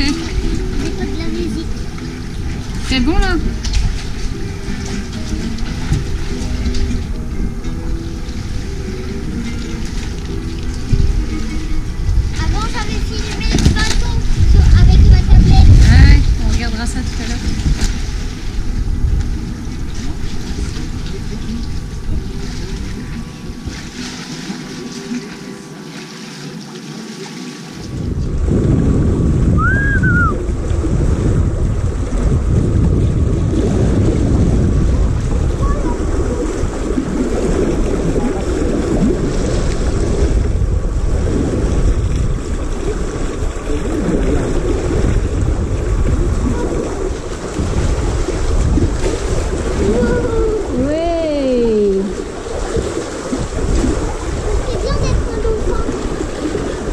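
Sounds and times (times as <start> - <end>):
wind buffeting microphone: 0.0 - 25.1, 27.8 - 56.9
sea rushing: 0.0 - 56.9
water washing along hull: 0.0 - 56.9.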